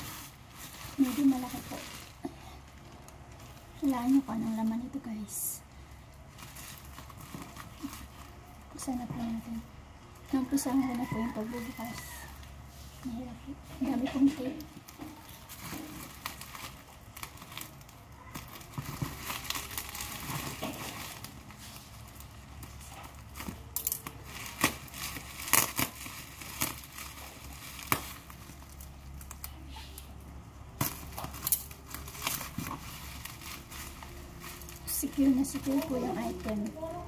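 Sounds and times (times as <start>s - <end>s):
bubble wrap crinkling: 0.0s - 37.0s.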